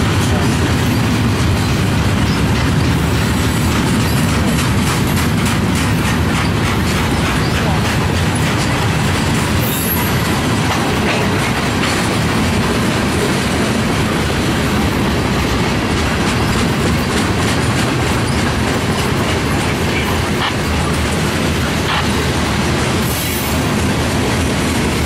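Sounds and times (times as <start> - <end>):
rail joints clickety-clack: 0.0 - 25.0
train wheels rumbling on rails: 0.0 - 25.0.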